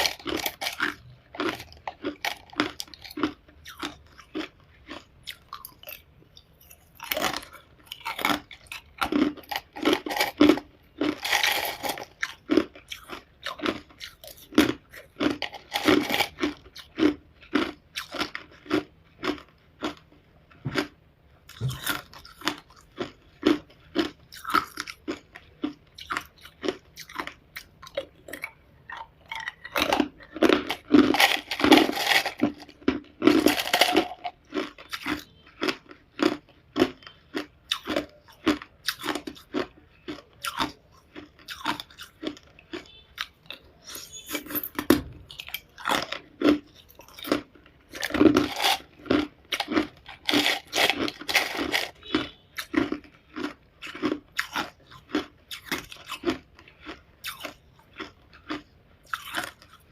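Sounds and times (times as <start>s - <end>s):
person chewing ice cubes: 0.0s - 59.9s.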